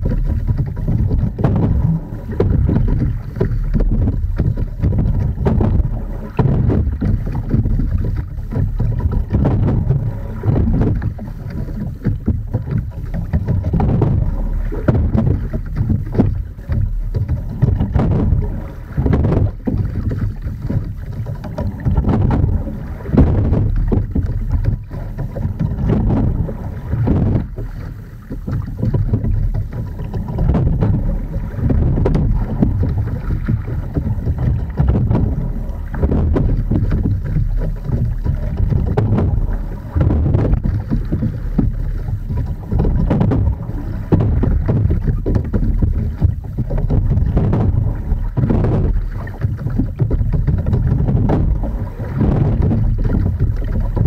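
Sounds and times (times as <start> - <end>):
hull slapping through chop: 0.0 - 54.0
oars splashing in water: 0.0 - 54.0
rigging knocks: 0.0 - 54.0
wind rumble on microphone: 0.0 - 54.0.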